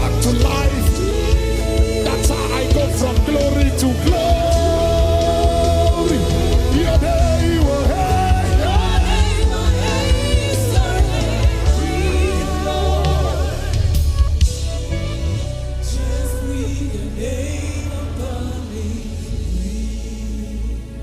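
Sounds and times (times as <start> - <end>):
bass: 0.0 - 21.0
drums: 0.0 - 21.0
sustained keyboard chords: 0.0 - 21.0
voices singing wordless lines: 0.0 - 21.0.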